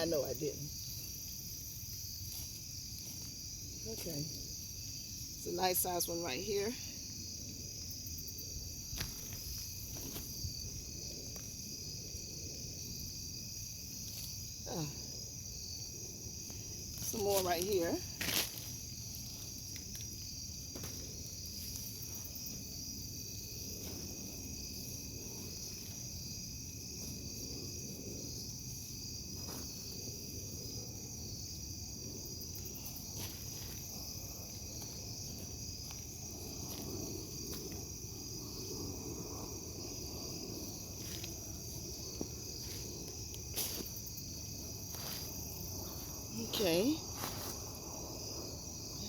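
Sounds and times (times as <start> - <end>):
night insects chorus: 0.0 - 49.0.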